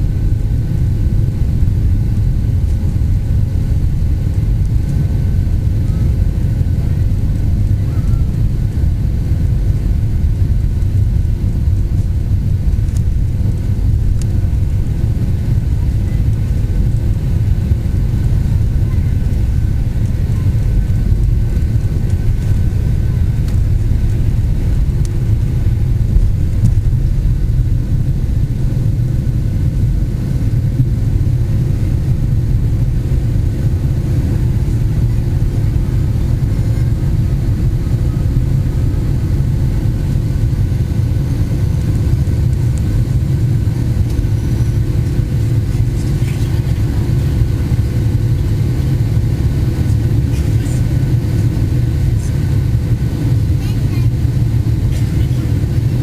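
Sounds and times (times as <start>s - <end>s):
aircraft engine cabin rumble: 0.0s - 56.0s
faint steady hum: 0.0s - 56.0s.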